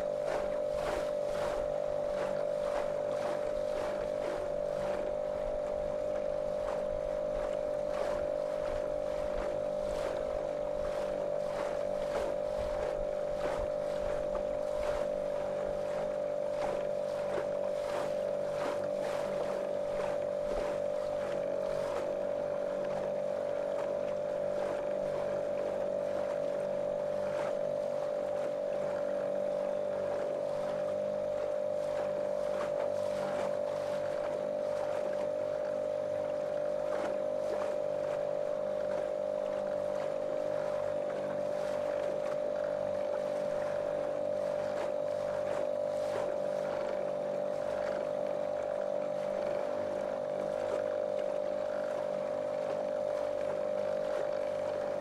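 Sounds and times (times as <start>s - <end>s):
motorboat motor droning: 0.0s - 55.0s
water slapping against hull: 0.0s - 55.0s.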